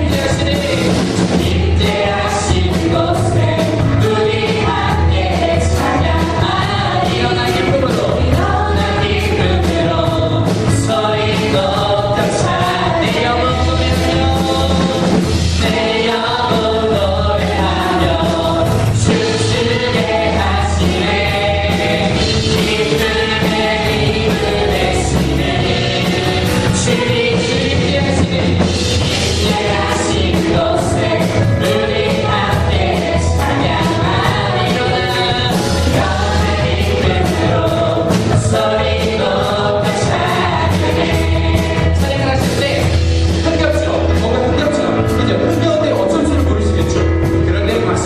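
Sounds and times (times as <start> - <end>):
group singing: 0.0 - 44.9
bass: 0.0 - 48.0
drum beat: 0.0 - 48.0.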